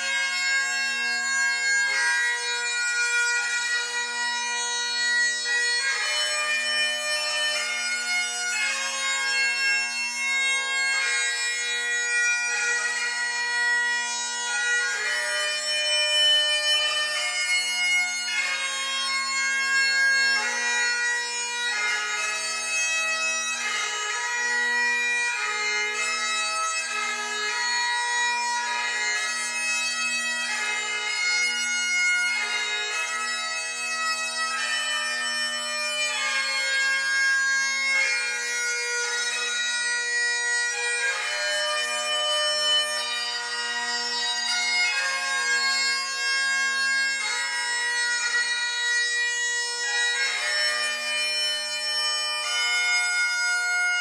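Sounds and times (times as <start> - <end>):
bagpipe drones: 0.0 - 54.0
bagpipe melody: 0.0 - 54.0.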